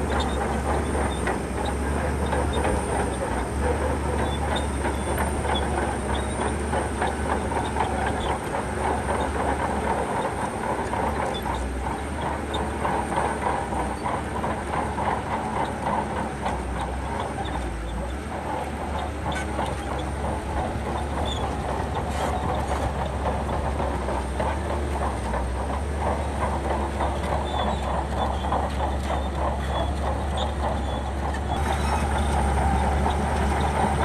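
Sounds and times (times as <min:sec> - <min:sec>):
diesel engine running: 0:00.0 - 0:34.0
steel tracks clattering: 0:00.0 - 0:34.0.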